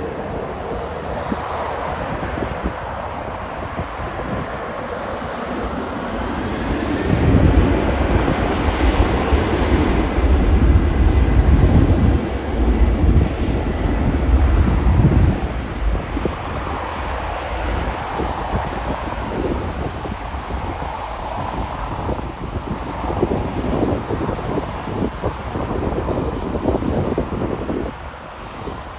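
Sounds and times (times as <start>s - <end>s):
airplane engine passing: 0.0s - 28.9s
wind rumbling on microphone: 0.0s - 28.9s.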